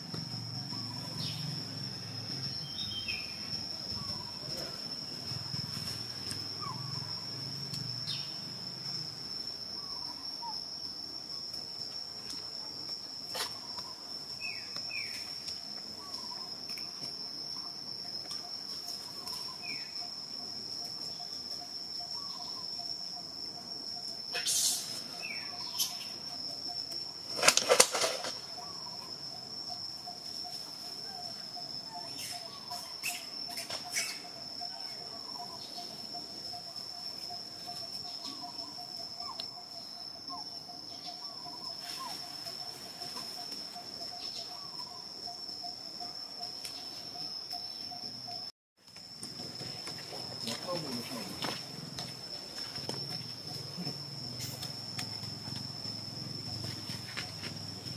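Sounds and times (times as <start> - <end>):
insect drone: 0.0 - 57.9.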